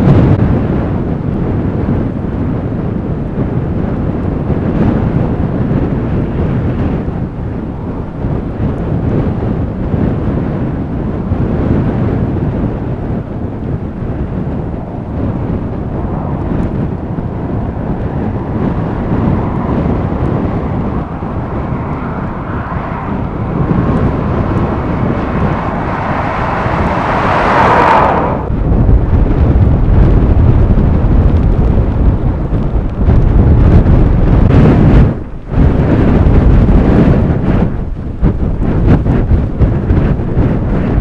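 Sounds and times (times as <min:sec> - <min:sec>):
blizzard wind gusting: 0:00.0 - 0:41.0.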